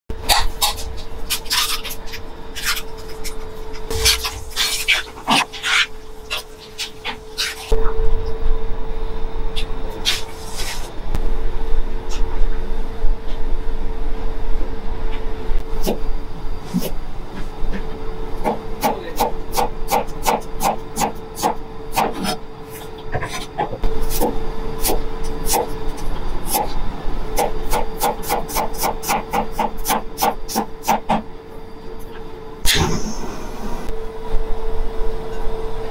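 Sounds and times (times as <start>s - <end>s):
steady hum: 0.1s - 35.9s.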